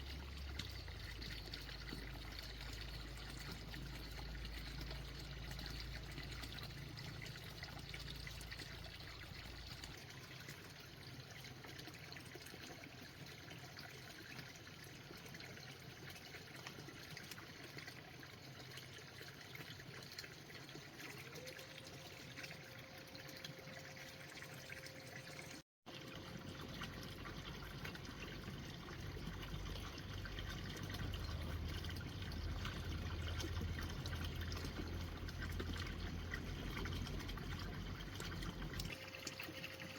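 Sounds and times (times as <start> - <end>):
water trickling and pouring: 0.0 - 39.9.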